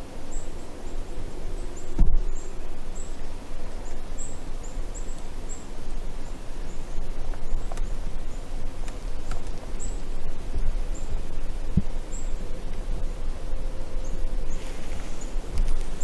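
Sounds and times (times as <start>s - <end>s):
low rumble and rustle: 0.0s - 16.0s.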